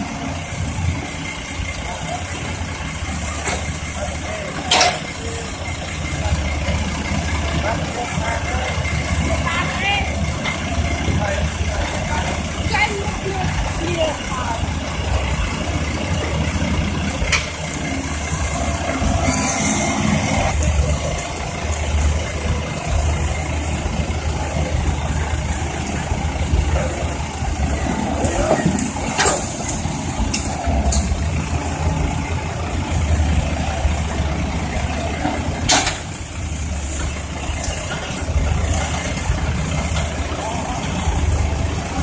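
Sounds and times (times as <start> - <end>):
heavy diesel machinery running: 0.0 - 42.0.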